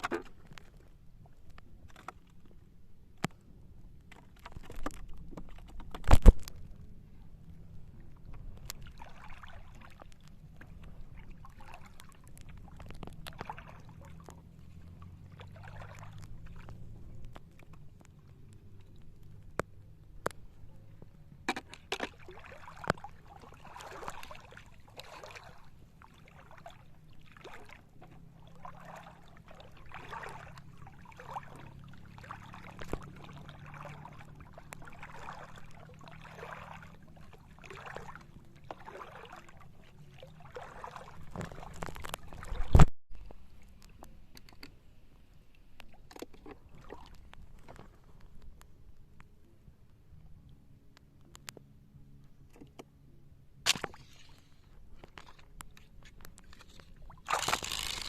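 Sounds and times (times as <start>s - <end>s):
footsteps wading through shallow water: 0.0s - 52.8s, 53.7s - 58.0s.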